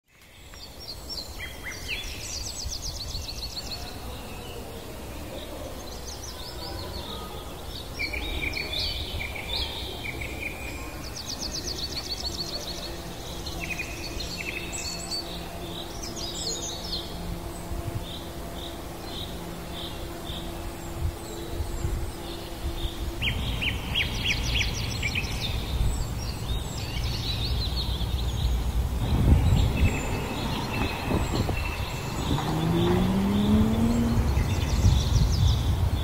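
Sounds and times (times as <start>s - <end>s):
songbirds singing and trilling: 0.1s - 36.0s.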